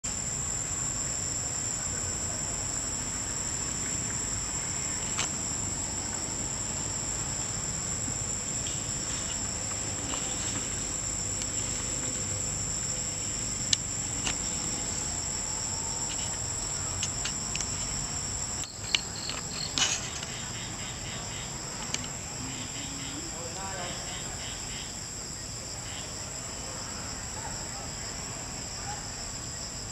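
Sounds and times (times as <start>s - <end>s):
chorus of forest insects: 0.0s - 29.9s.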